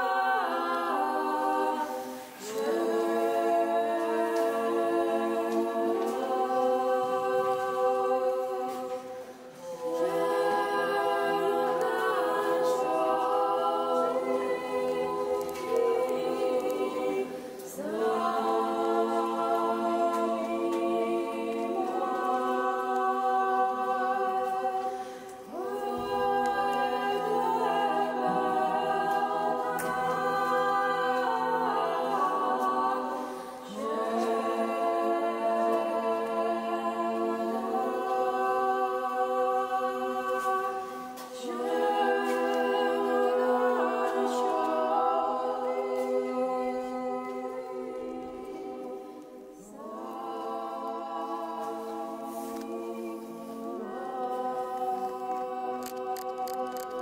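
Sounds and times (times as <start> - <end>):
group of voices singing: 0.0 - 57.0.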